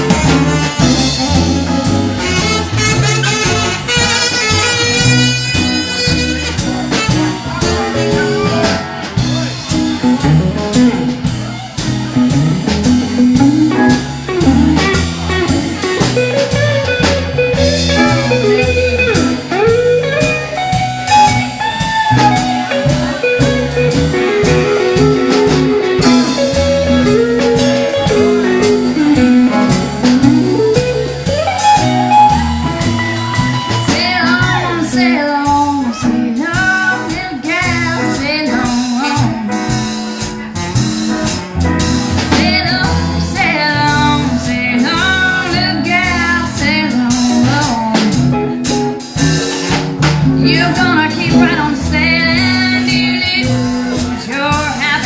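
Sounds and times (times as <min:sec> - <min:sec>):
lead guitar picking: 0:00.0 - 0:55.0
steady drum beat: 0:00.0 - 0:55.0
upright bass: 0:00.0 - 0:55.0.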